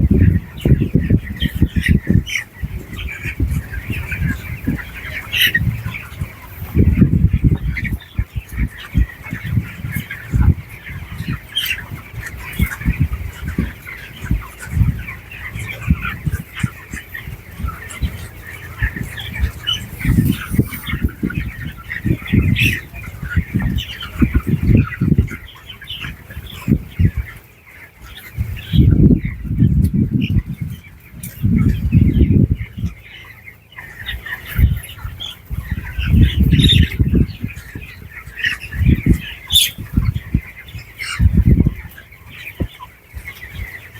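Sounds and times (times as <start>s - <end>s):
chickens cheeping and clucking: 0.0s - 43.9s.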